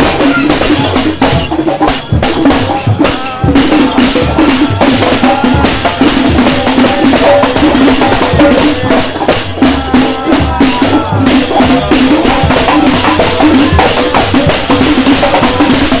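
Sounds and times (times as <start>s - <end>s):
jingling tambourines: 0.0s - 16.0s
loud music with drums: 0.0s - 16.0s.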